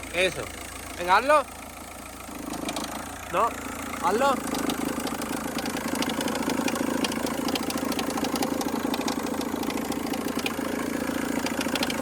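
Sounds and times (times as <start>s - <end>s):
car engine idling: 0.0s - 12.0s
fast irregular engine ticking: 0.0s - 12.0s.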